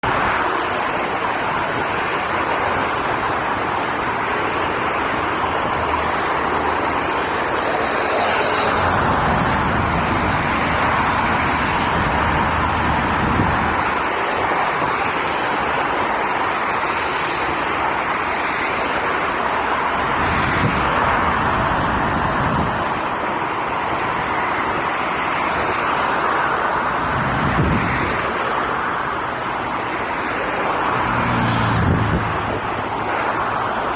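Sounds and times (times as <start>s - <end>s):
jet airliner roar: 0.0s - 33.9s.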